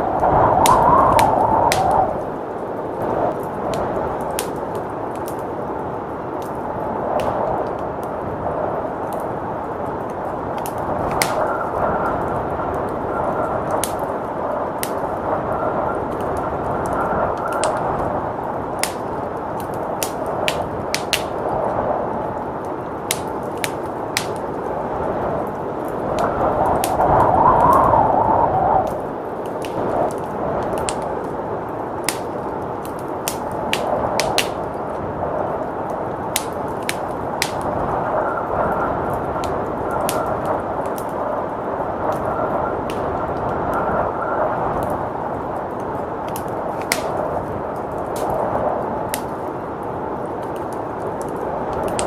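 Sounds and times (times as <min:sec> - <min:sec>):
blizzard wind rushing: 0:00.0 - 0:52.0
wood fire crackling: 0:00.0 - 0:52.0.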